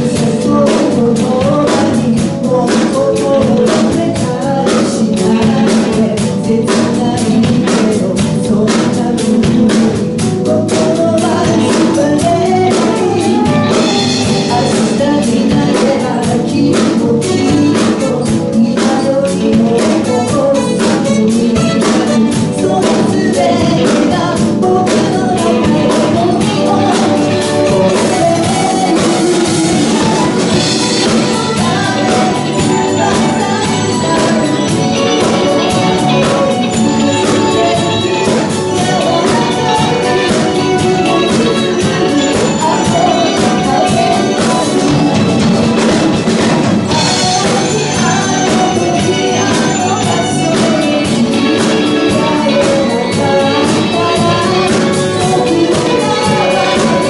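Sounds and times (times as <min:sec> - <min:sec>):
drum kit beat: 0:00.0 - 0:57.0
live pop band playing: 0:00.0 - 0:57.0
person singing: 0:00.0 - 0:57.0.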